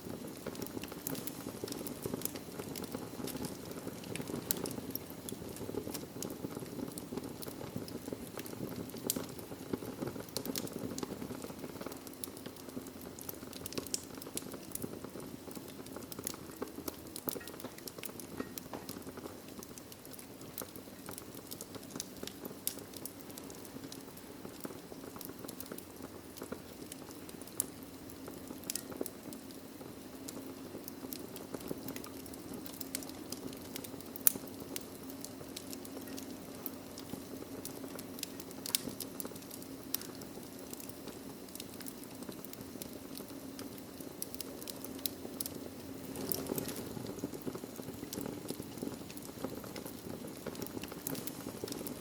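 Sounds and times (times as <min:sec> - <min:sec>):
fire rumbling: 0:00.0 - 0:52.0
wood fire crackling and popping: 0:00.0 - 0:52.0.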